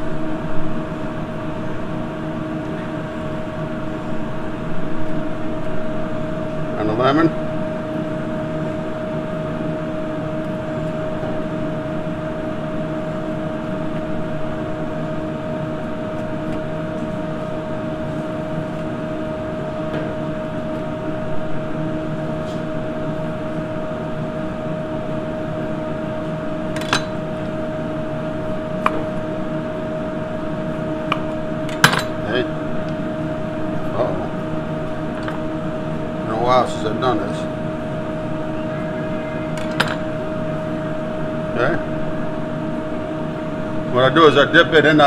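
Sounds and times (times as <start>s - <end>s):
kitchen machinery humming: 0.0s - 45.0s.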